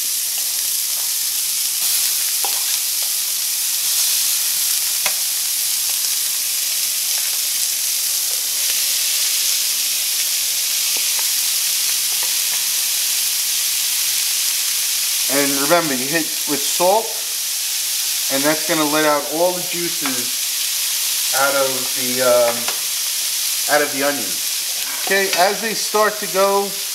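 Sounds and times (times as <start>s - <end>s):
onion sizzling in oil: 0.0s - 26.9s.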